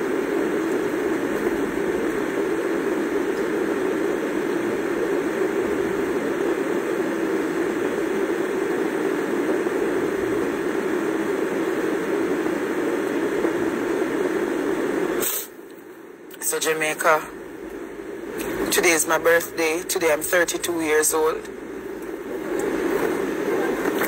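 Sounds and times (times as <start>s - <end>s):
steady rushing air noise: 0.0s - 24.0s.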